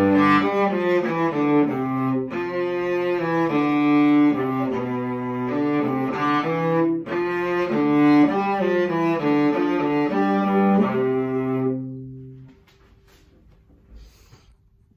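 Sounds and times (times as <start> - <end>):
bowed cello: 0.0 - 12.7.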